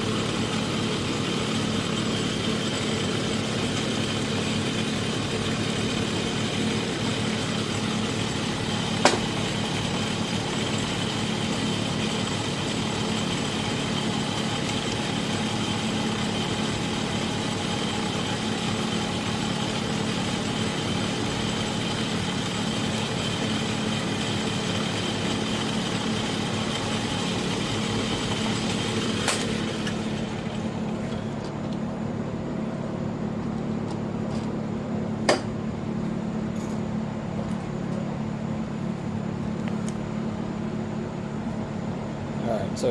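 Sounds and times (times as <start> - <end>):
machine humming: 0.0 - 42.9.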